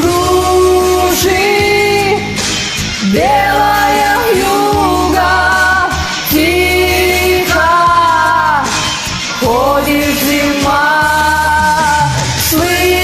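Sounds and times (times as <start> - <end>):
backing track with low bass: 0.0 - 13.0.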